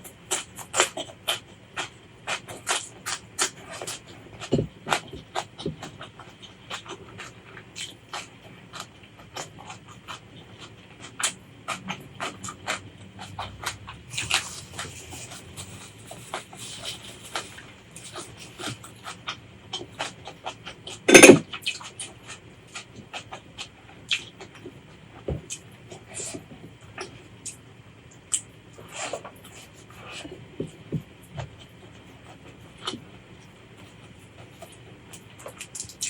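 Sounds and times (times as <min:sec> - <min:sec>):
wet chewing and crunching: 0:00.0 - 0:36.0.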